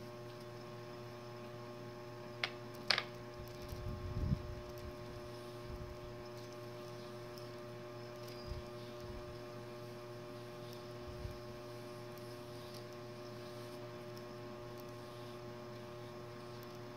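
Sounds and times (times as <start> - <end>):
electrical hum: 0.0 - 16.9.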